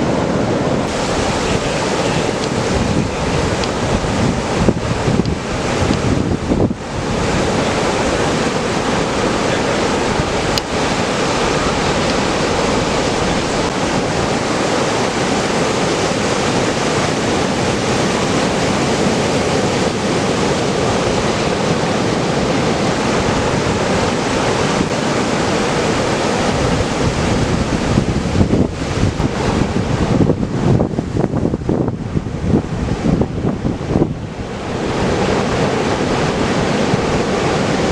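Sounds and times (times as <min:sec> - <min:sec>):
ocean surf breaking: 0:00.0 - 0:37.9
wind buffeting the microphone: 0:00.0 - 0:37.9.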